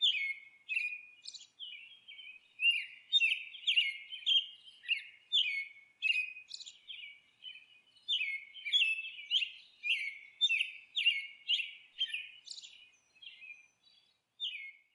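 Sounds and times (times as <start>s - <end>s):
songbird chirping: 0.0s - 14.9s.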